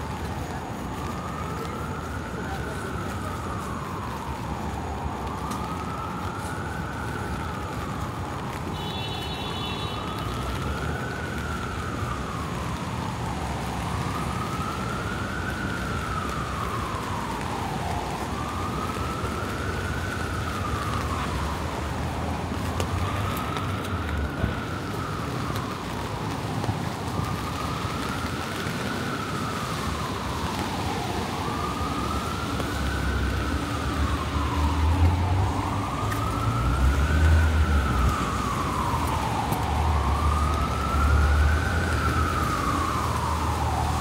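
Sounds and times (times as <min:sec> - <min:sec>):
emergency vehicle siren wailing: 0:00.0 - 0:44.0
rain on wet street: 0:00.0 - 0:44.0
steady traffic: 0:00.0 - 0:44.0.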